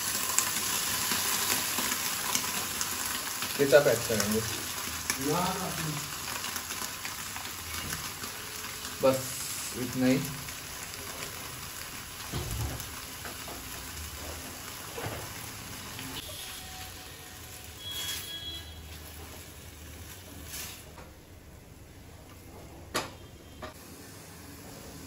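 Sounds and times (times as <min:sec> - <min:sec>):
food sizzling in frying pan: 0:00.0 - 0:21.0, 0:23.7 - 0:25.0.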